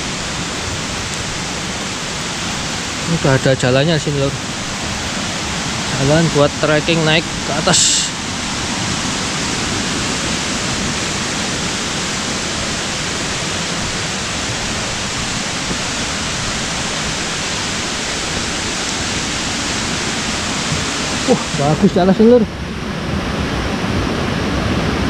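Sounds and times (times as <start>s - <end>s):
river flowing: 0.0s - 25.0s
waterfall rushing: 0.0s - 25.0s.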